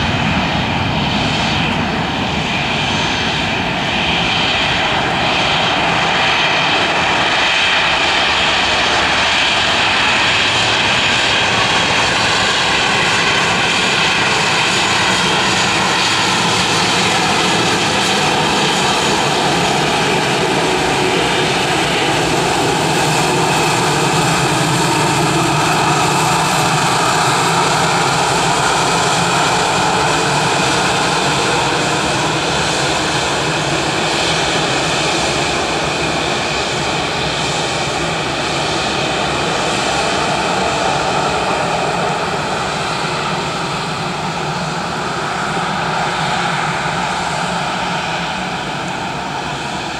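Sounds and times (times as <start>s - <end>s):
jet engines whining and rumbling: 0.0s - 49.9s.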